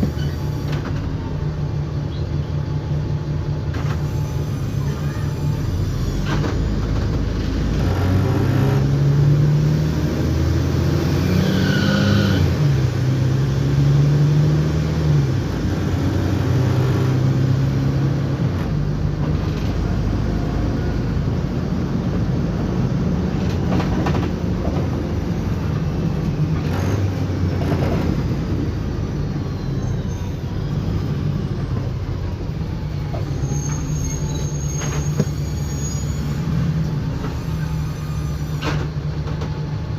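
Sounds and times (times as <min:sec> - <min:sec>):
bus diesel engine pulling away: 0:00.0 - 0:39.9.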